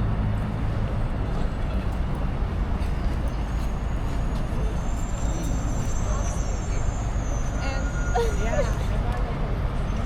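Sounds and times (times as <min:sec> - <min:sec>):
city street traffic rumble: 0:00.0 - 0:10.0.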